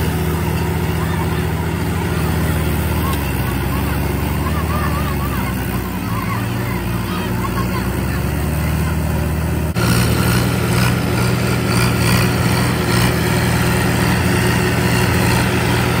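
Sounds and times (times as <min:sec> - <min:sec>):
diesel tractor engines under heavy load: 0:00.0 - 0:16.0.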